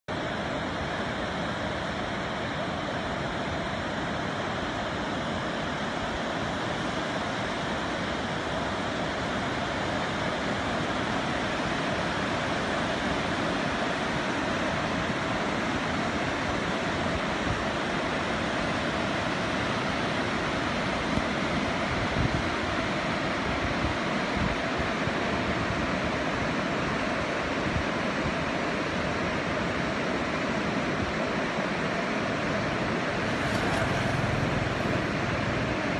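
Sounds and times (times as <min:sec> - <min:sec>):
whitewater river rushing over boulders: 0:00.1 - 0:35.9.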